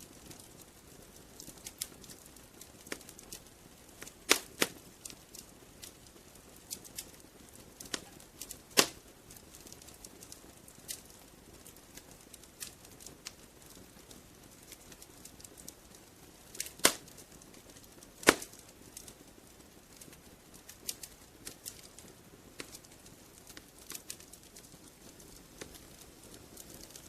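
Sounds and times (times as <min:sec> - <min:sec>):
faint hiss: 0:00.0 - 0:27.0
wood fire crackling: 0:00.0 - 0:27.0.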